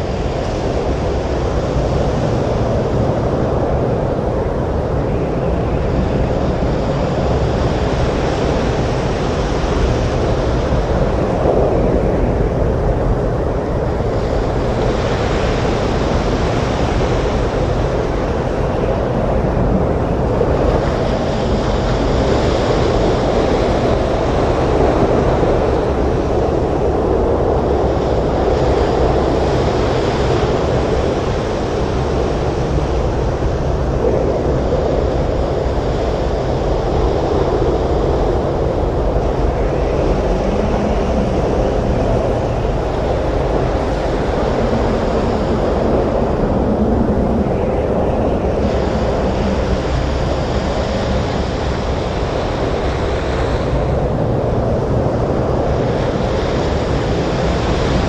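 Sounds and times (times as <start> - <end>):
gusting wind: 0.0 - 58.0.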